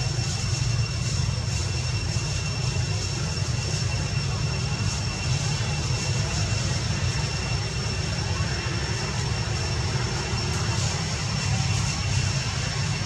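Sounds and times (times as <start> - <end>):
high-pitched whines: 0.0 - 13.0.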